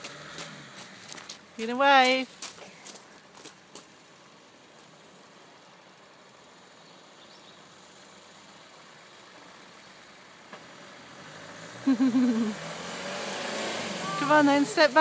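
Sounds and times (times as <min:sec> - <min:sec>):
diesel engine approaching: 0:00.0 - 0:15.0.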